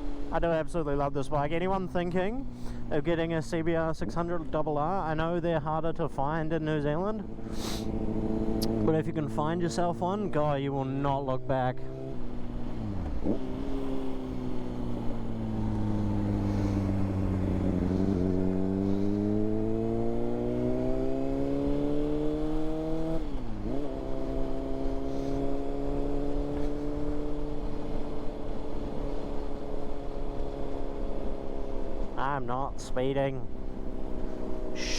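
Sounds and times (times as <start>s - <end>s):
motorcycle engine revving: 0.0s - 0.8s, 2.3s - 34.9s.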